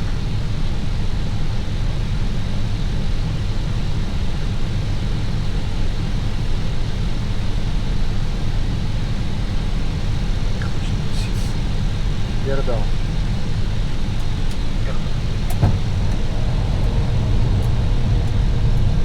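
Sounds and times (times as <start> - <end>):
low rumble of airflow and engines: 0.0 - 19.0.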